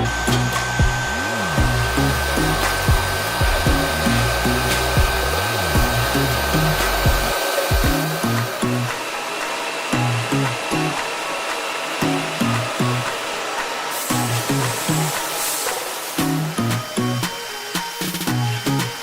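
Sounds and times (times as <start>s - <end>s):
background music with bass line: 0.0s - 9.0s, 10.0s - 11.1s, 12.0s - 13.2s, 14.1s - 15.4s, 16.2s - 19.0s
steady rushing noise: 0.0s - 19.0s
thin high whine: 0.0s - 19.0s.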